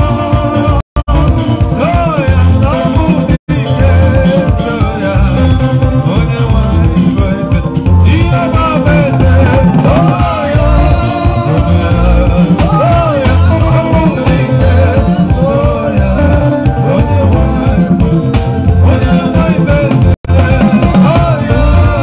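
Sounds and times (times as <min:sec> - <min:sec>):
drum kit: 0:00.0 - 0:22.0
keyboard: 0:00.0 - 0:22.0
man singing into microphone: 0:00.0 - 0:22.0.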